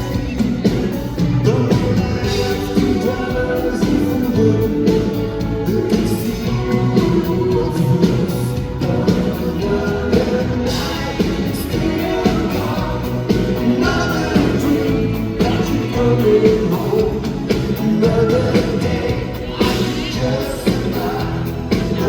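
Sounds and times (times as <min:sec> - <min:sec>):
backing instruments: 0:00.0 - 0:22.0
drums: 0:00.0 - 0:22.0
man singing: 0:00.0 - 0:22.0.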